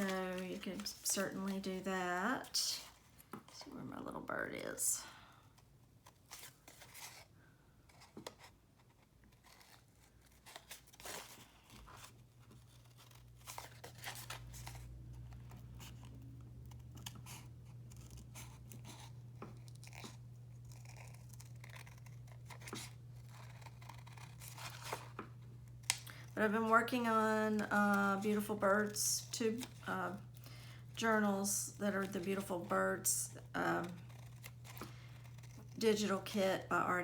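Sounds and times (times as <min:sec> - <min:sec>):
paper rustling: 0:00.0 - 0:01.8, 0:07.9 - 0:36.0
faint low hum: 0:00.0 - 0:37.0.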